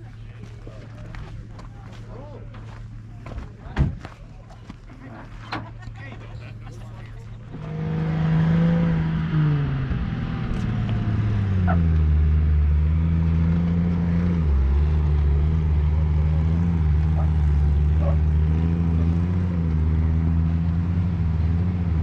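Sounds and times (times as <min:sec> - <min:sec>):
engine running low drone: 0:00.0 - 0:22.0.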